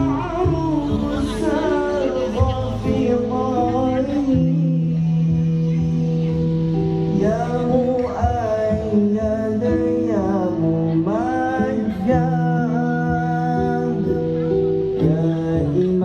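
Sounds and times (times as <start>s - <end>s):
song with singing voice and beat: 0.0s - 16.0s.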